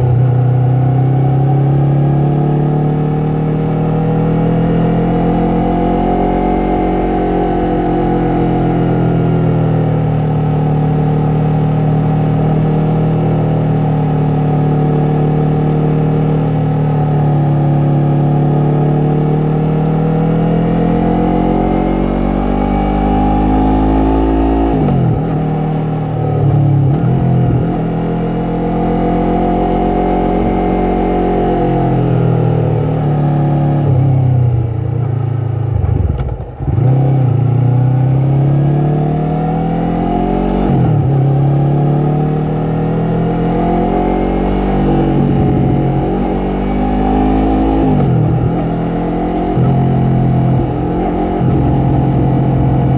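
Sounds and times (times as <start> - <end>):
motorcycle engine and exhaust: 0.0 - 52.9.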